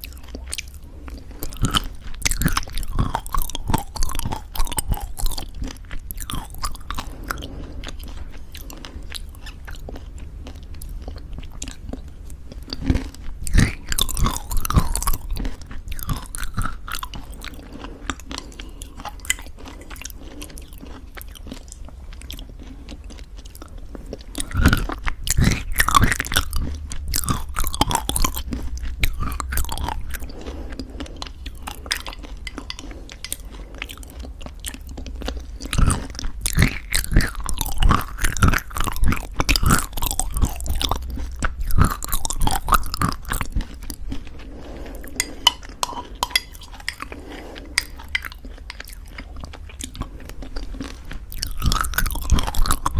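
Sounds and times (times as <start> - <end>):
crunchy chewing: 0.0 - 52.9
wet mouth sounds: 0.0 - 52.9.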